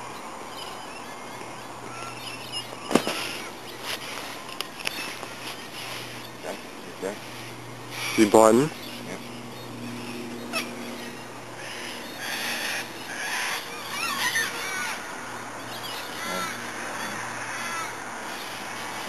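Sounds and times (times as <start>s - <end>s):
bird warbling glides: 0.0s - 19.0s
birds harsh crow-like calls: 0.6s - 19.0s.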